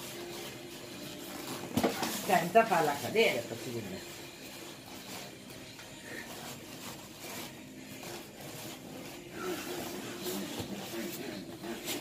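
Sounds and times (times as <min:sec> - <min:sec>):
cardboard box scraping: 0:00.0 - 0:12.0
polystyrene packing rubbing: 0:00.0 - 0:12.0.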